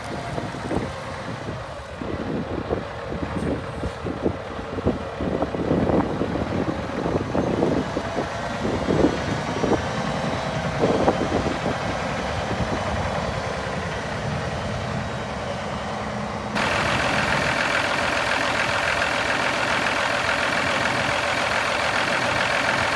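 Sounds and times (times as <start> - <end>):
diesel truck engine idling: 0.0 - 22.9
engine knocks: 3.3 - 22.9.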